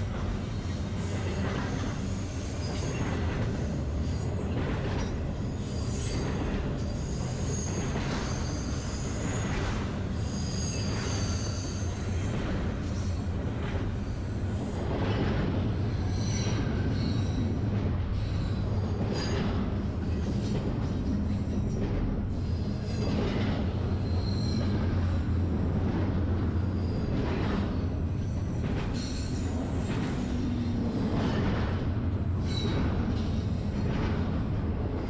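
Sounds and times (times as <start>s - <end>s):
train low rumble: 0.0s - 35.0s.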